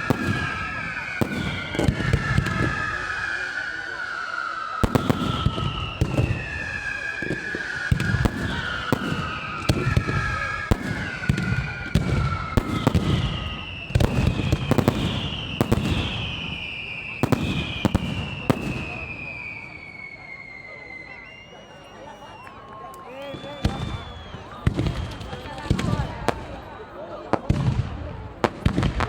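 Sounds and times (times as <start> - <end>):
fireworks bangs: 0.0 - 29.0
fireworks whistling down in pitch: 0.0 - 29.0.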